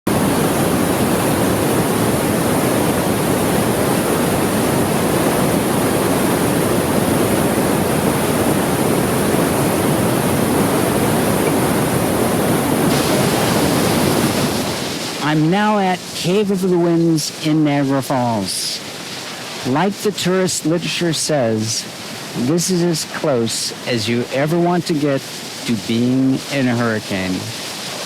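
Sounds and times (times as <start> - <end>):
waterfall roaring: 0.1 - 28.0.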